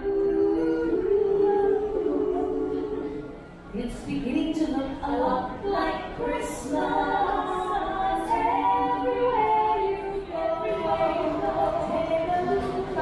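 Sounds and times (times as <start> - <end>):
a cappella group singing: 0.0 - 13.0.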